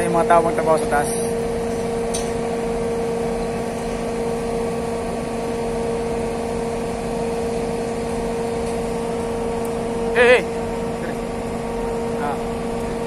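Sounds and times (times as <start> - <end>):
crane diesel engine running: 0.0 - 13.0.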